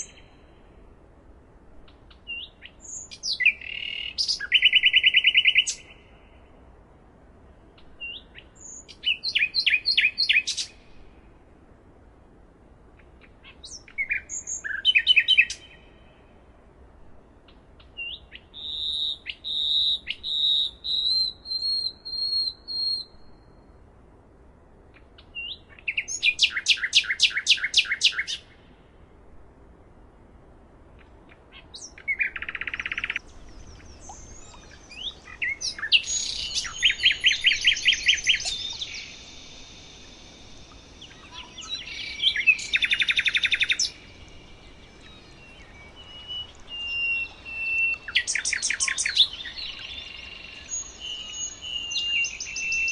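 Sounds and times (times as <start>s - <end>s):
songbirds singing: 0.0s - 11.4s, 12.3s - 24.0s, 24.8s - 29.0s, 29.7s - 52.9s
faint steady background hiss: 0.0s - 52.9s.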